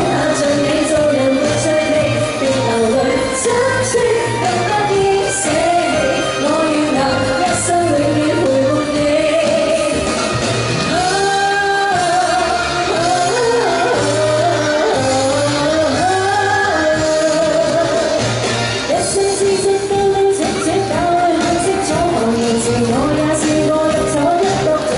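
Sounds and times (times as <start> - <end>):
backing music: 0.0 - 24.9
woman singing into microphone: 0.0 - 24.9.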